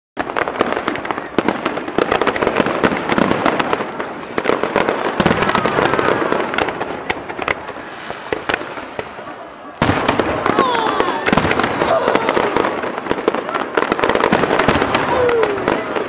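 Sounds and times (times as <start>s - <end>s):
fireworks bursting and crackling: 0.2s - 16.0s.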